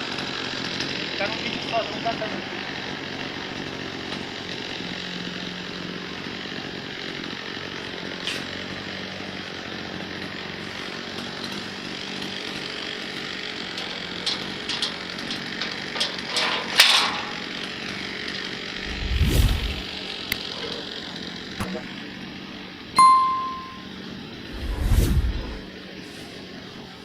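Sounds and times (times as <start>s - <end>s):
small petrol engine running: 0.0s - 24.6s.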